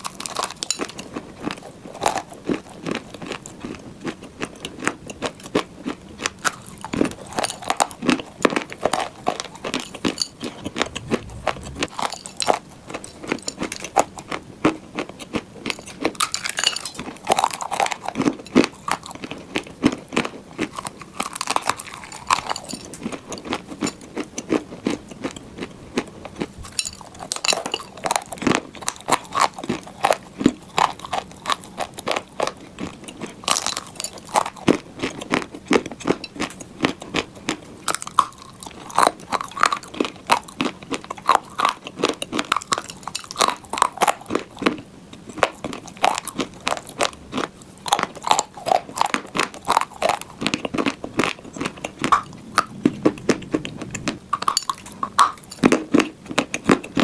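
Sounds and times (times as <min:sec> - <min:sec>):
crunchy chewing of dry clay: 0:00.0 - 0:57.0.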